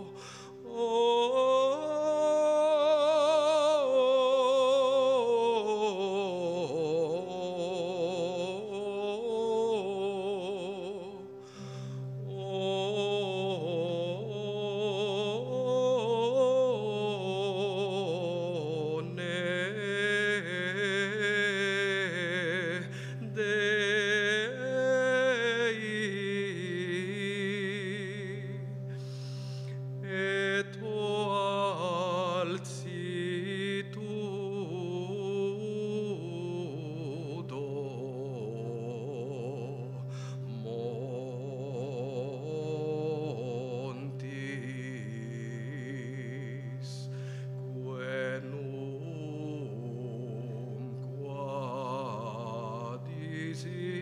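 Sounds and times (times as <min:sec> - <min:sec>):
man singing: 0:00.0 - 0:11.4, 0:12.2 - 0:28.8, 0:30.0 - 0:54.0.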